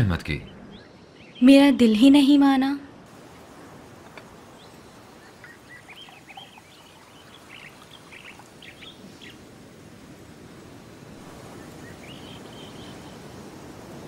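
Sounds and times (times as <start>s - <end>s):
birds chirping: 0.0s - 14.0s
faint outdoor hiss: 0.0s - 14.0s.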